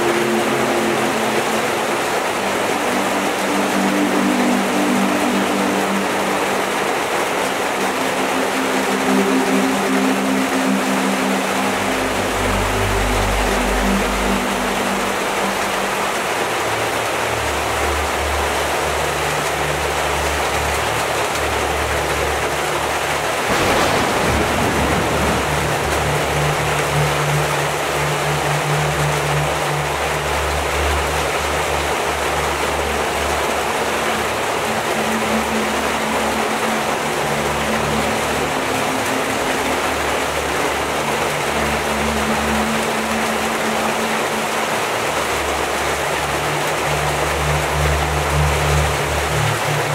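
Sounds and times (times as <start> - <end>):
heavy rain falling: 0.0 - 49.9
soft low sustained music notes: 0.0 - 49.9.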